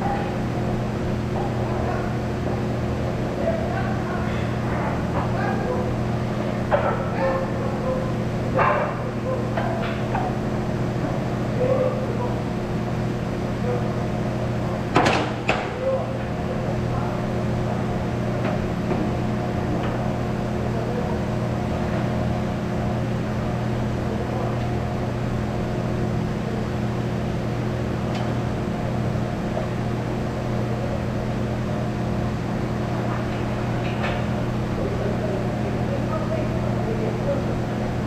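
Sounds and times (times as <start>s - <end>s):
machinery humming: 0.0s - 38.0s.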